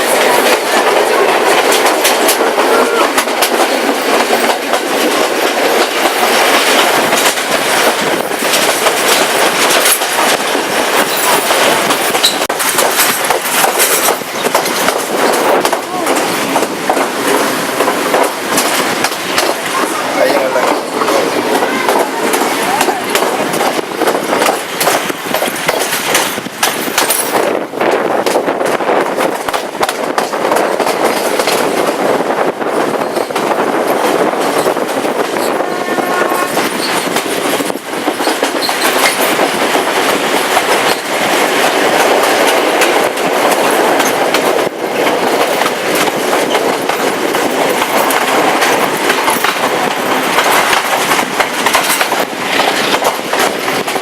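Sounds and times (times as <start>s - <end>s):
wheels clicking over track: 0.0s - 32.1s, 36.3s - 54.0s
train wheel and rail noise: 0.0s - 54.0s.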